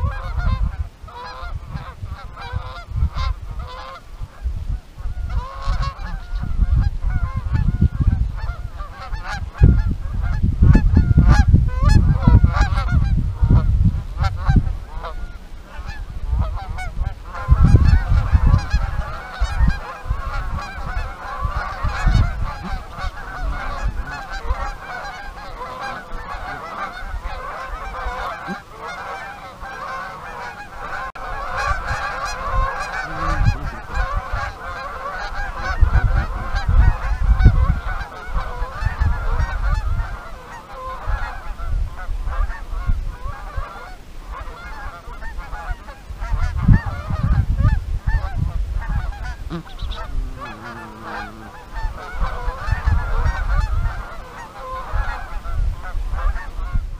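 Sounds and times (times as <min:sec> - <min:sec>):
geese honking: 0:00.0 - 0:56.8.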